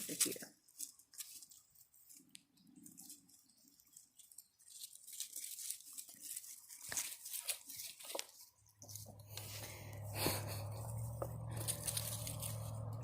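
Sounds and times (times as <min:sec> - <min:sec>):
crackly rustling: 0:00.0 - 0:13.0
puppies scuffling and chewing: 0:00.0 - 0:13.0.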